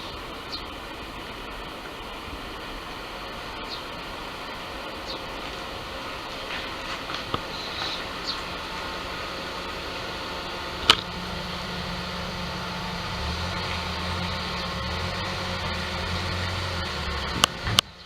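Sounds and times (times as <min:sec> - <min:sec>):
car engine idling hum: 0:00.0 - 0:18.0.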